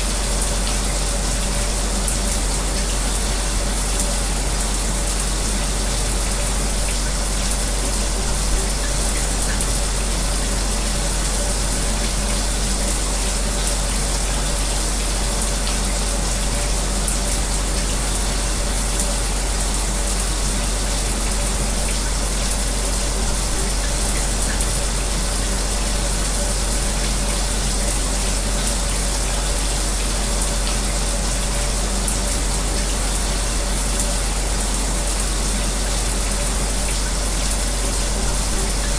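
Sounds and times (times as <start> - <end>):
electric fan hum: 0.0 - 38.9.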